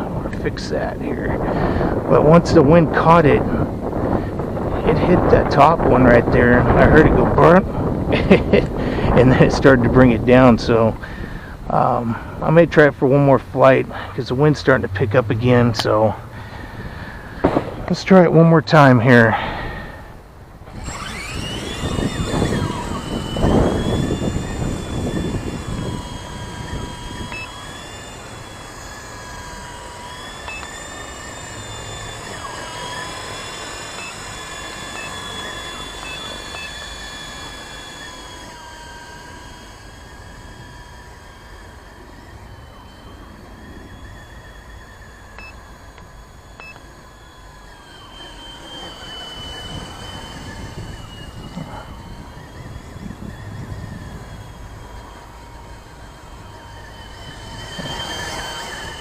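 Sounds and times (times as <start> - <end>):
rc helicopter motor whining: 0.0 - 59.0.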